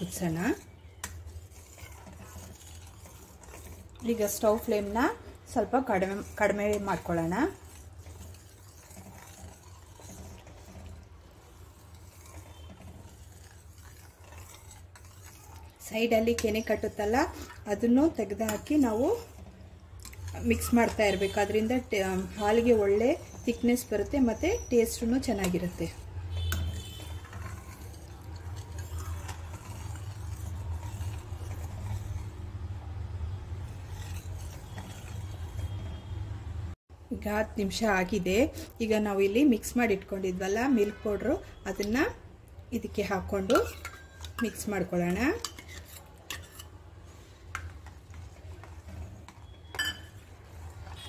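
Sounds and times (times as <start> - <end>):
ladle stirring milk in a pan: 0.0 - 36.6, 37.2 - 51.0.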